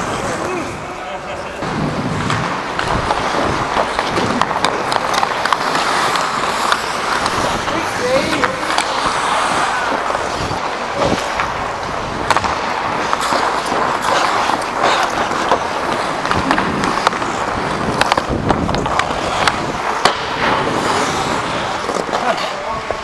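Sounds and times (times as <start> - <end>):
hockey skates on ice: 0.0 - 23.0
sticks striking puck: 1.6 - 23.0.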